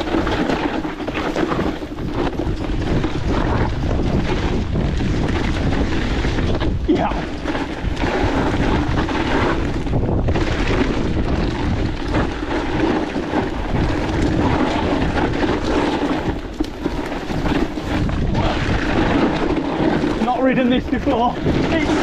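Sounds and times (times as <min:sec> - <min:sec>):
bike rattling: 0:00.0 - 0:22.0
tyre noise on dirt: 0:00.0 - 0:22.0
wind rushing over microphone: 0:00.0 - 0:22.0.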